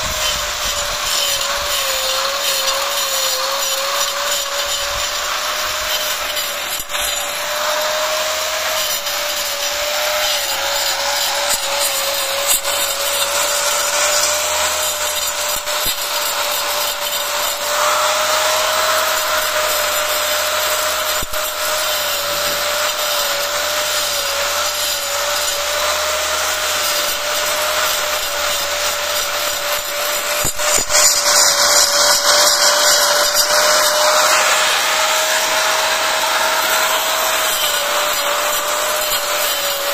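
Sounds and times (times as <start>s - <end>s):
angle grinder cutting brick: 0.0s - 39.9s.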